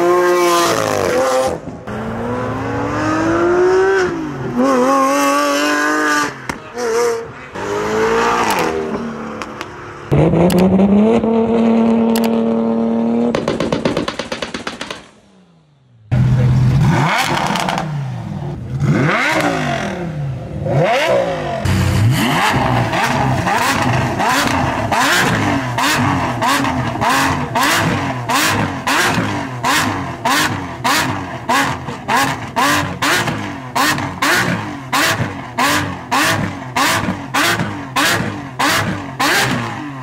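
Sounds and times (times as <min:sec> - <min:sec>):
car engine revving: 0:00.0 - 0:13.8, 0:16.1 - 0:40.0.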